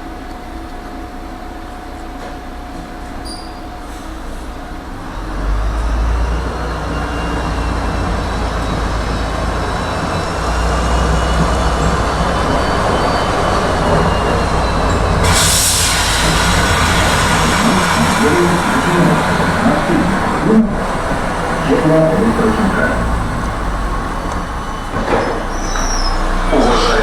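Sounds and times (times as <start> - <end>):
tram motor whine: 0.0 - 27.0
steel wheels rumbling on rails: 0.4 - 27.0.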